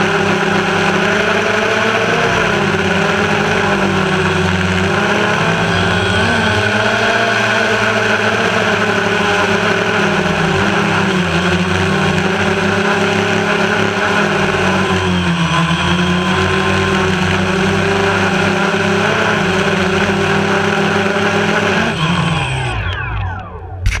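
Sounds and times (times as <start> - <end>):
drone motors humming: 0.0 - 24.0
motors spinning down whine: 0.0 - 24.0.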